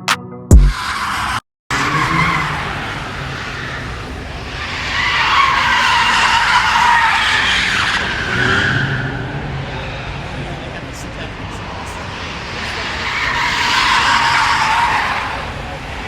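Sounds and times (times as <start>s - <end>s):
car tires squealing: 0.7s - 16.0s.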